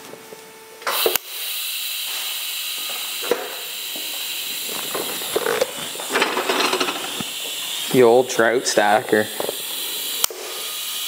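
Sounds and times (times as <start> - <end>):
welding arc hissing: 0.8 - 11.0.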